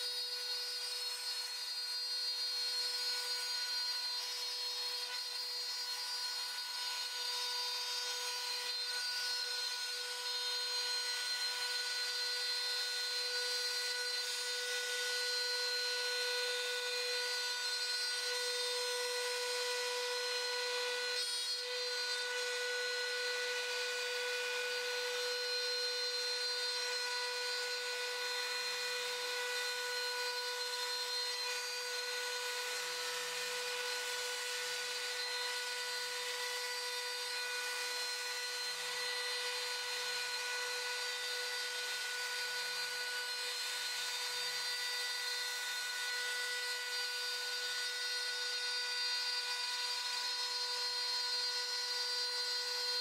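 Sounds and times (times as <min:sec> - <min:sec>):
router spindle high-pitched whine: 0:00.0 - 0:53.0.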